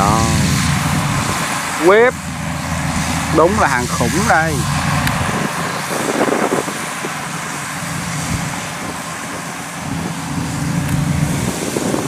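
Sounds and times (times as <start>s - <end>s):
combine harvester engine running: 0.0s - 12.0s.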